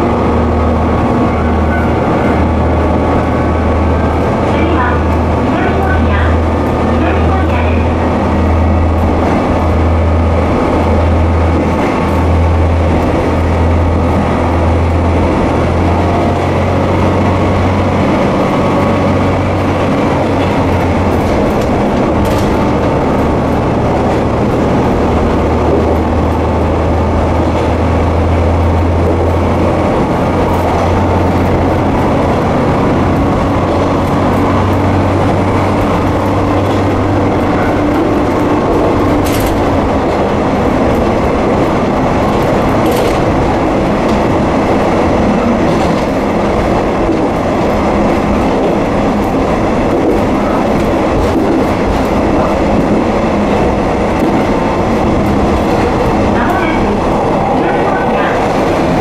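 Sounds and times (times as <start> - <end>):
diesel engine drone: 0.0 - 59.0
wheel-on-rail rumble: 0.0 - 59.0.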